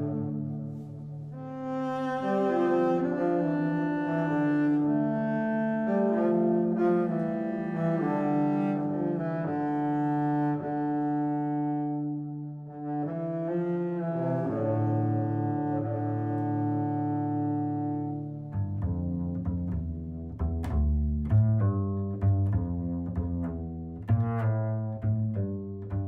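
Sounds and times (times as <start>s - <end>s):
slow string music: 0.0s - 26.0s.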